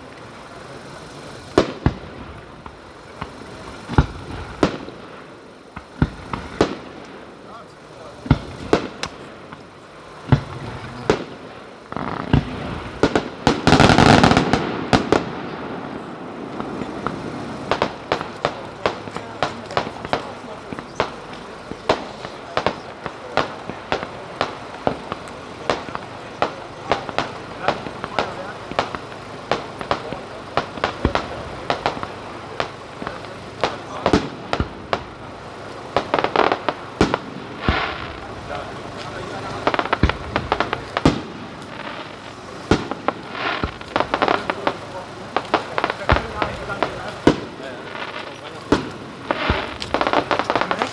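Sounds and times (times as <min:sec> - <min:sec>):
fireworks bangs: 0:00.0 - 0:50.9
fireworks crackling barrage: 0:00.0 - 0:50.9.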